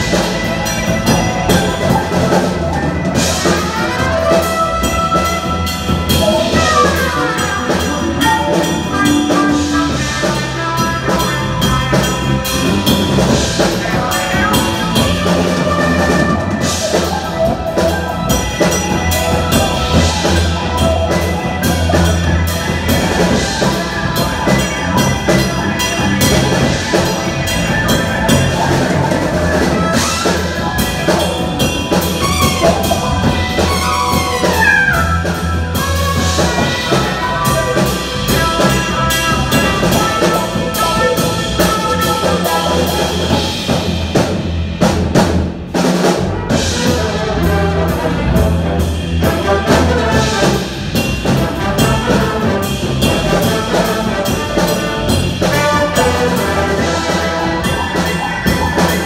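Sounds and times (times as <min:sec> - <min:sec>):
drum kit beat: 0:00.0 - 0:59.0
jazz fusion big band: 0:00.0 - 0:59.0.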